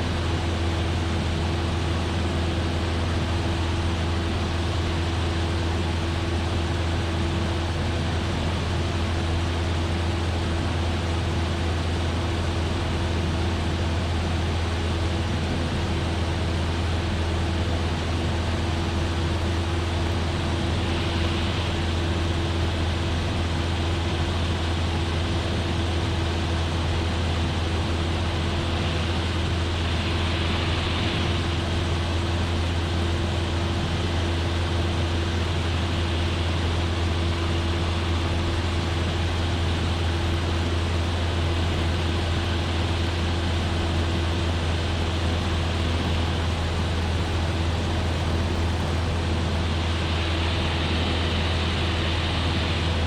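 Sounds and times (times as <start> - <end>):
aircraft engine and propeller droning: 0.0 - 53.0.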